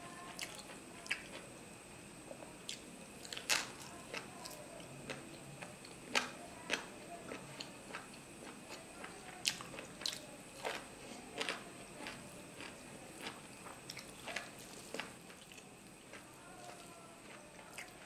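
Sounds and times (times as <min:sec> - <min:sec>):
close chewing with wet smacks: 0:02.6 - 0:18.0.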